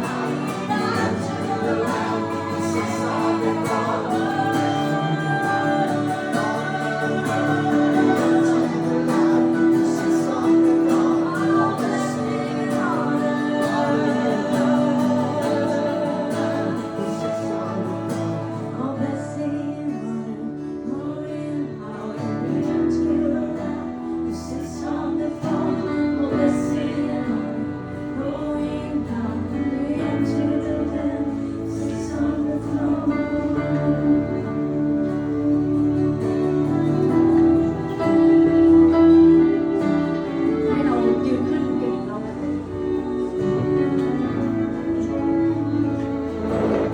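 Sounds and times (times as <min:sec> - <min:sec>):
guitar accompaniment: 0:00.0 - 0:46.9
voices singing: 0:00.0 - 0:46.9.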